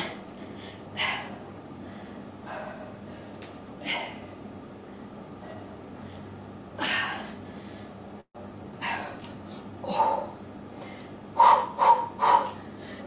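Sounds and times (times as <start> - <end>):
woman breathing effortfully: 0.0 - 8.0, 8.8 - 13.0.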